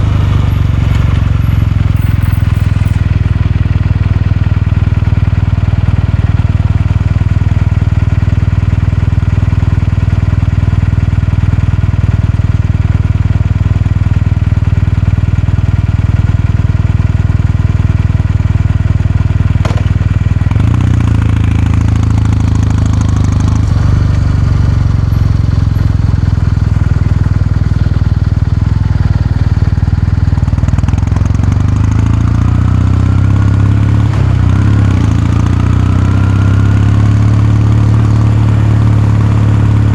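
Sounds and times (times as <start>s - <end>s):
motorcycle engine exhaust revving: 0.0s - 10.2s, 15.2s - 39.9s.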